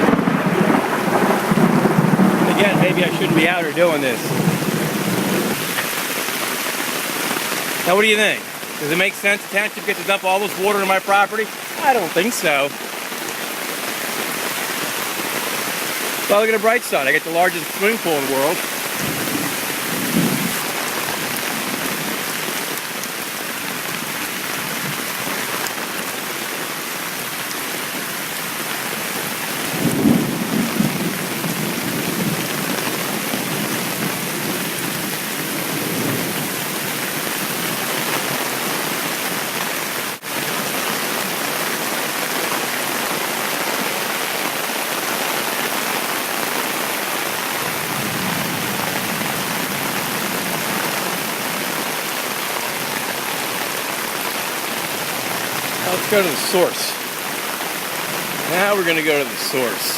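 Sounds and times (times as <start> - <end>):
heavy rain and rushing runoff: 0.0 - 59.9.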